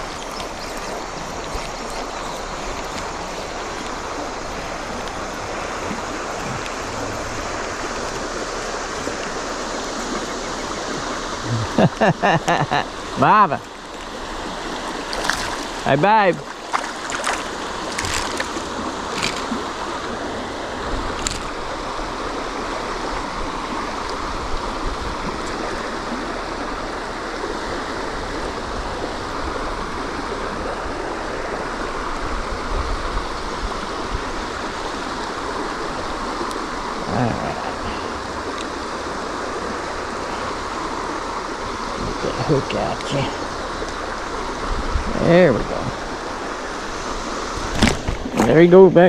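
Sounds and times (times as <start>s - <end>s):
creek water flowing: 0.0s - 49.0s.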